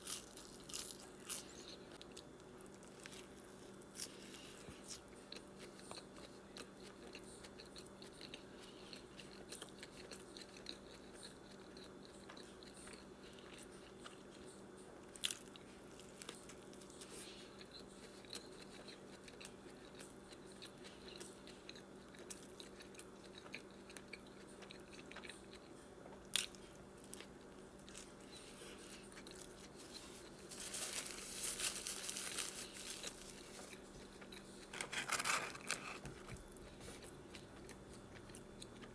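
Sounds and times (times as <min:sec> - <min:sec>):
close chewing mouth sounds: 0:00.0 - 0:31.1, 0:31.8 - 0:35.0, 0:36.1 - 0:38.9
steady low hum: 0:00.0 - 0:38.9.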